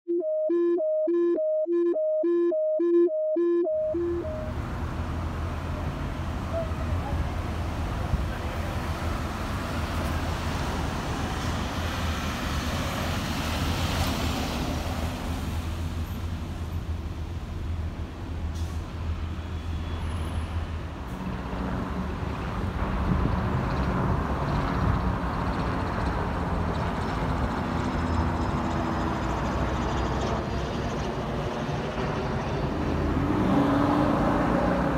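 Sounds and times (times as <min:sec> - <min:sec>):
low engine drone of traffic: 0:00.1 - 0:34.9.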